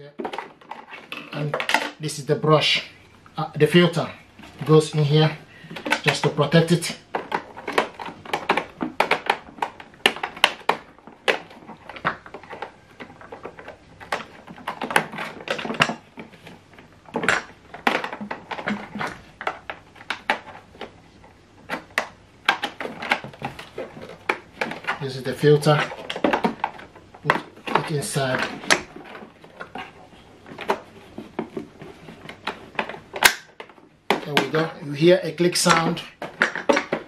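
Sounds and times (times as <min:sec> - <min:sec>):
plastic parts clicking and rattling: 0:00.0 - 0:02.2, 0:03.8 - 0:37.0.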